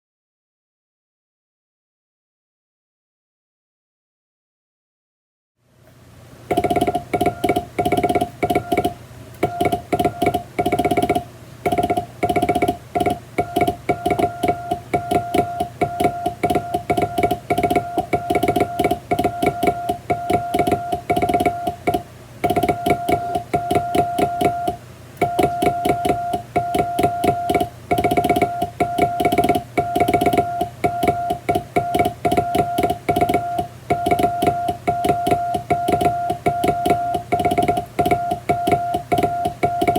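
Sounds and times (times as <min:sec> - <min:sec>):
faint constant hum: 0:05.6 - 0:39.9
morse code beeps: 0:06.5 - 0:39.9.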